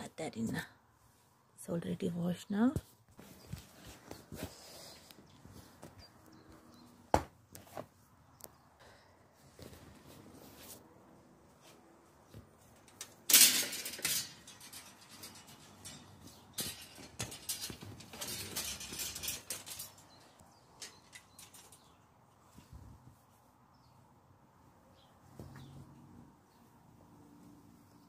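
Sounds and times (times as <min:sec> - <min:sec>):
rustling and handling noise: 0:00.0 - 0:08.7, 0:09.3 - 0:28.0.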